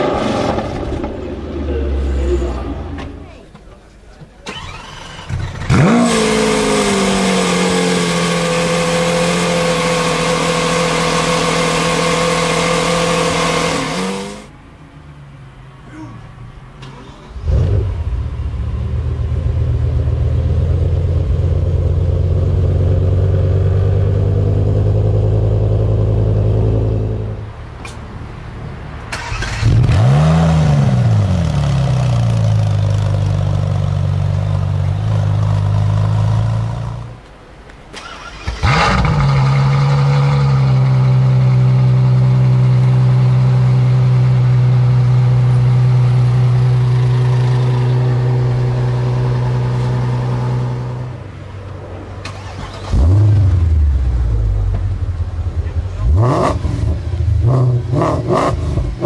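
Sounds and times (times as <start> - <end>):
car engine starting with flare: 0.0 - 14.6, 16.7 - 59.0
car engine starting and idling: 0.0 - 59.0
car engine revving: 4.5 - 14.6, 17.2 - 27.6, 28.9 - 37.3, 38.0 - 59.0.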